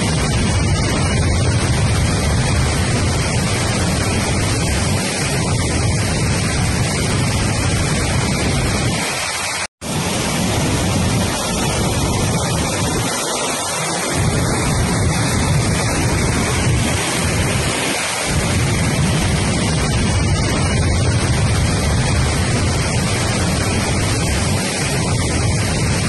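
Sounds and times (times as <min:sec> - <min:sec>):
floodwater rushing and churning: 0:00.0 - 0:26.0.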